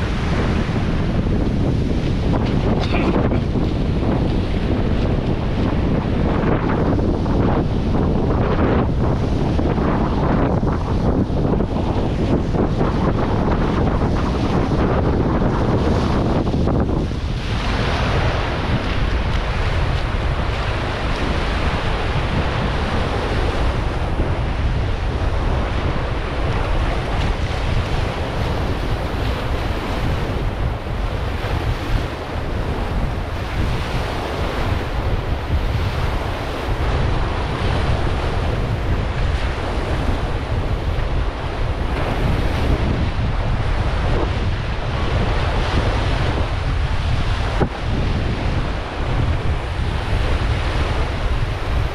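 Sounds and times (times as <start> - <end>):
rushing sea water: 0.0 - 51.9
wind buffeting microphone: 0.0 - 51.9.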